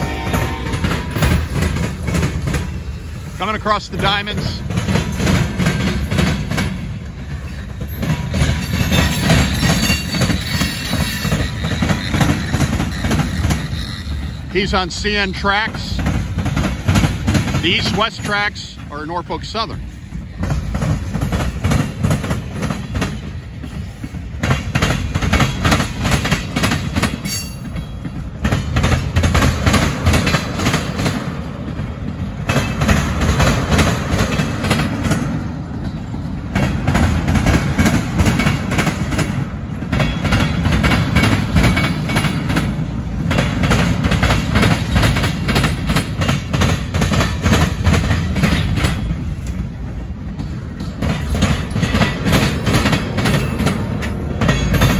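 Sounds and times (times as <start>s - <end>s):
low train rumble: 0.0s - 54.9s
train wheels clacking over rail joints: 0.0s - 54.9s.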